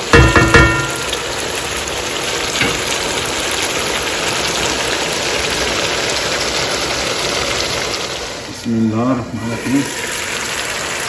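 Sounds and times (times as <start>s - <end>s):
gravy sizzling in a wok: 0.0s - 11.0s.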